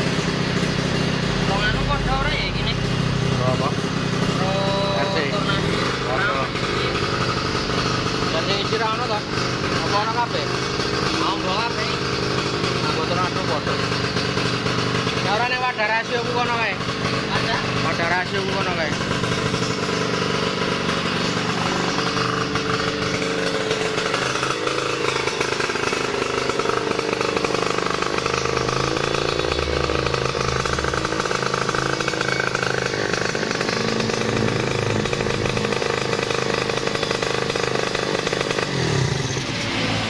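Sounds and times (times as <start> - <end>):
two-stroke engine running: 0.0 - 40.0.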